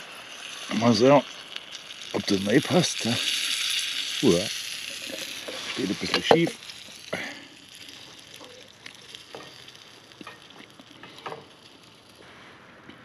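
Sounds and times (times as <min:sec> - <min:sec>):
soup sizzling in a pan: 0:00.0 - 0:12.4.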